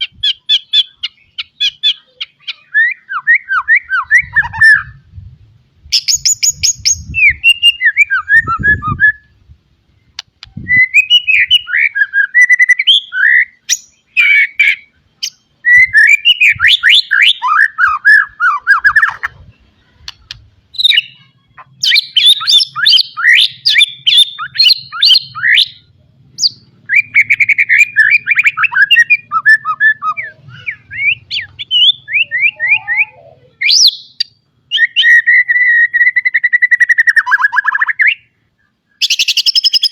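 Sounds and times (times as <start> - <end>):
bird singing whistles and trills: 0.0 - 5.1, 5.9 - 9.4, 10.0 - 39.9.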